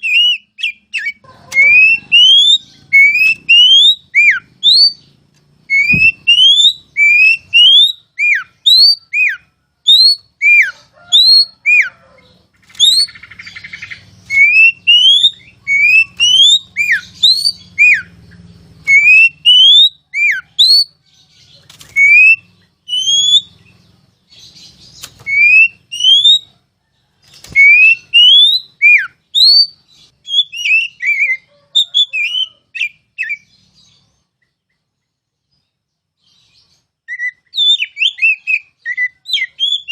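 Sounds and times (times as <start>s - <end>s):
bird singing whistled notes: 0.0s - 26.5s, 27.4s - 34.6s, 35.5s - 39.9s.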